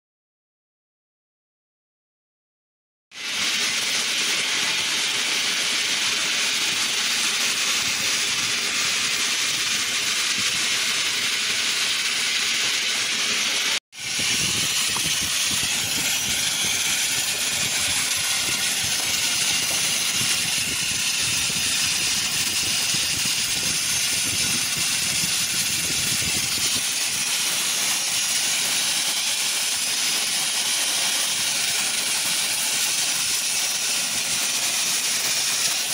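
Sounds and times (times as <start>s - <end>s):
gas flame burner hissing: 3.2s - 35.9s.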